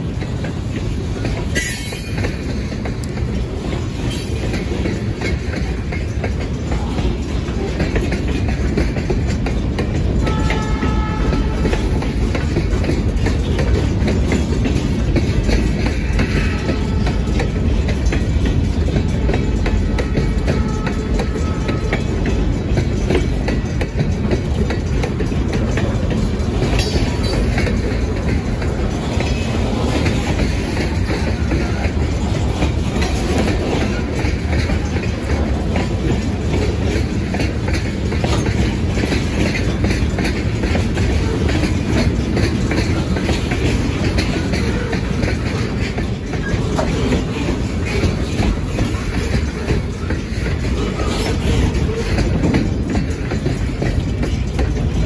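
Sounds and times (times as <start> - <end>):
train wheels rumbling on rails: 0.0 - 55.0
wheels clicking over rail joints: 0.0 - 55.0.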